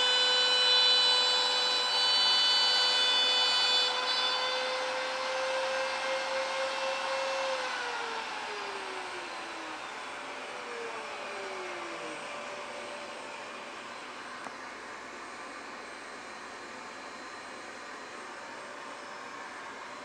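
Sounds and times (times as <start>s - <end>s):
router spindle whining: 0.0s - 20.0s.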